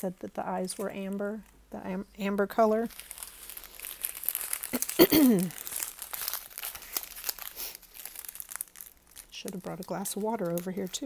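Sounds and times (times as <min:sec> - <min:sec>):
plastic packets crinkling: 0:00.2 - 0:11.0.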